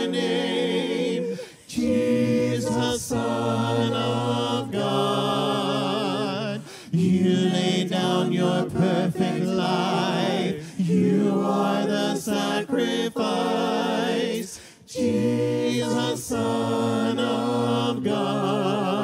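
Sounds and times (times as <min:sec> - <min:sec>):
group singing a cappella: 0:00.0 - 0:19.0.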